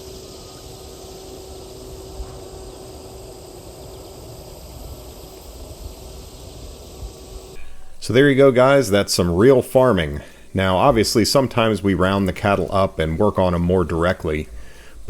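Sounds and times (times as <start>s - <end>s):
faint steady hum: 0.0s - 15.0s
wind rumbling on microphone: 0.0s - 15.0s.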